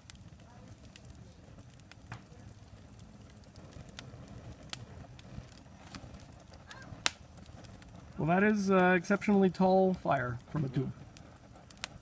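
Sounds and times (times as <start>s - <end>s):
flame crackling and popping: 0.0s - 12.0s
low steady fire rumble: 0.0s - 12.0s.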